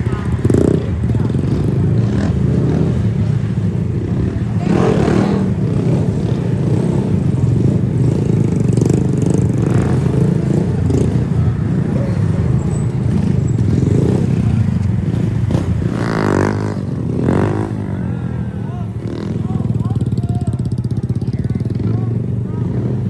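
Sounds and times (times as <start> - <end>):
mini bike engine revving: 0.0 - 23.0.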